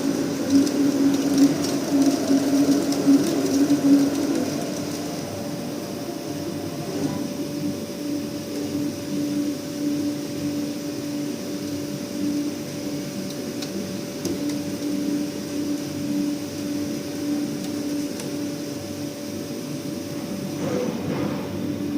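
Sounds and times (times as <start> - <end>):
machine humming: 0.0 - 21.9.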